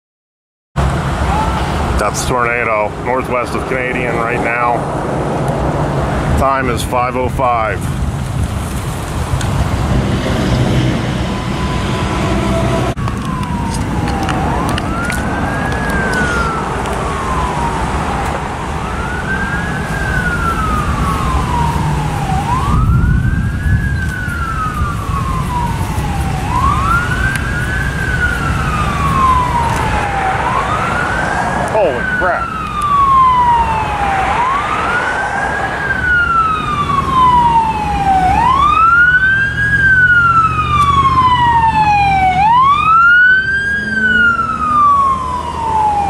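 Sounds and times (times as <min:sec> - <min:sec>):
warning siren wailing: 0:00.8 - 0:07.8, 0:09.6 - 0:46.0
low rumble of wind: 0:00.8 - 0:46.0.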